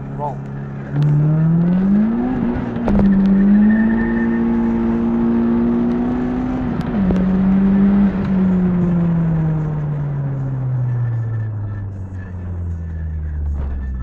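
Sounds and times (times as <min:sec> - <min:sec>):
car engine at full throttle: 0:00.0 - 0:14.0.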